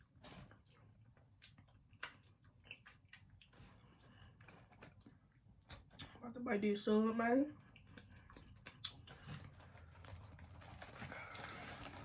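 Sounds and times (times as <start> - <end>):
person chewing food: 0.0 - 6.2, 7.6 - 12.0.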